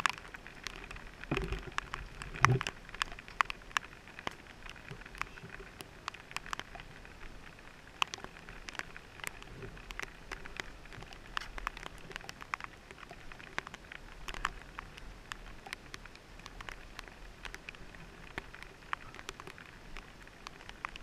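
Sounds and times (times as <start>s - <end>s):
light hiss of rain: 0.0s - 21.0s
raindrops ticking on helmet: 0.0s - 21.0s.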